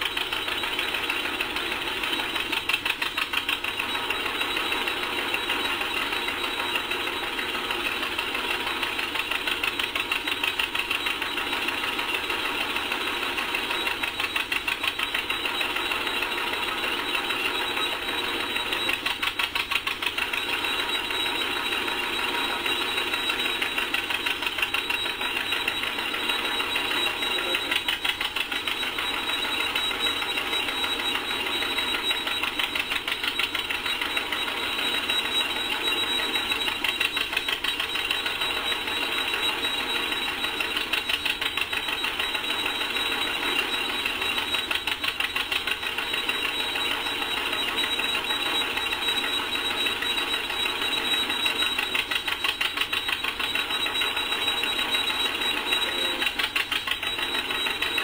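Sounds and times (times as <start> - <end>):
threshing machine clattering: 0.0 - 58.0
tractor engine popping: 0.0 - 58.0.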